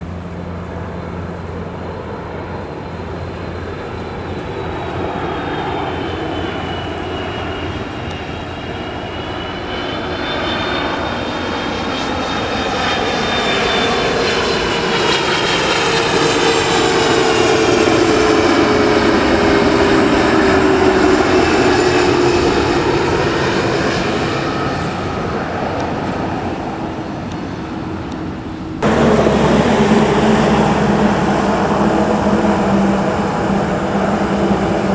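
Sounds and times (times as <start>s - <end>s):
jet engine roar: 0.0s - 34.9s
jet engine whine: 0.0s - 34.9s
loud engine sound: 0.0s - 34.9s.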